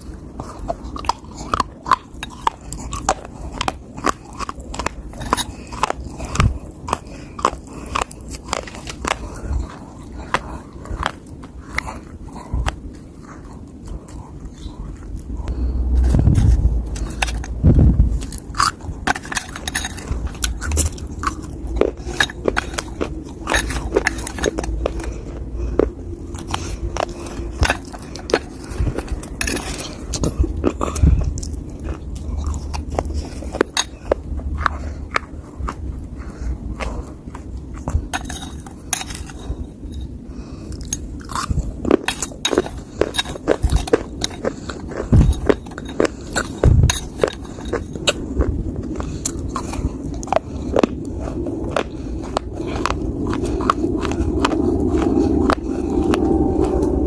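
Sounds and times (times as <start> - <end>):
person chewing dry clay crunching: 0.0 - 57.0.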